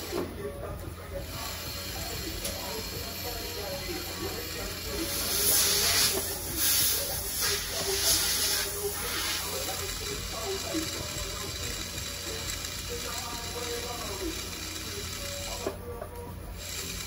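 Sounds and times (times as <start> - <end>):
polishing wheel rubbing on chain: 1.2 - 15.6
small motor whirring: 1.2 - 15.8, 16.5 - 17.0.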